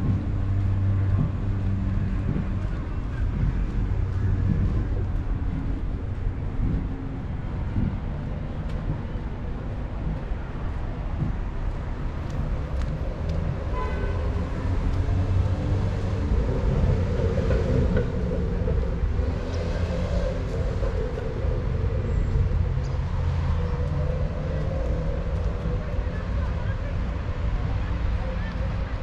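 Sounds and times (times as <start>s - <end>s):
low rumble with droning tone: 0.0s - 29.0s.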